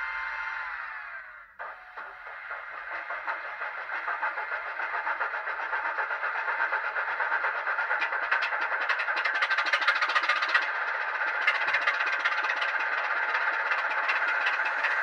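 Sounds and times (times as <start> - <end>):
thin recorded diesel engine: 0.0 - 15.0.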